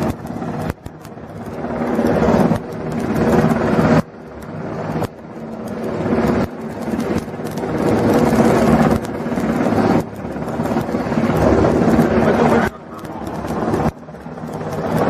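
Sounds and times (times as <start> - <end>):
rushing wind: 0.0 - 15.0
steady machinery hum: 0.0 - 15.0.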